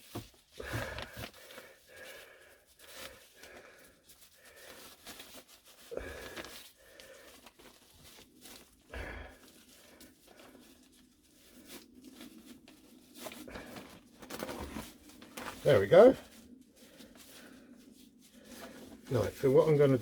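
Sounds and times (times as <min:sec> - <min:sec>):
heat wrap rustling and scraping: 0:00.0 - 0:20.0.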